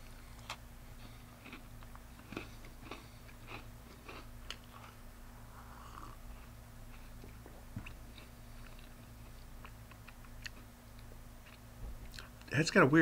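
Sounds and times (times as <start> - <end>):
person chewing with crunches: 0.0 - 12.5.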